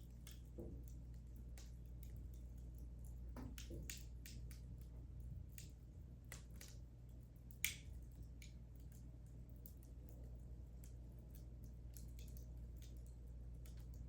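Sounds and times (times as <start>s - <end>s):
low steady hum: 0.0s - 14.0s
wood fire crackling: 0.0s - 14.0s.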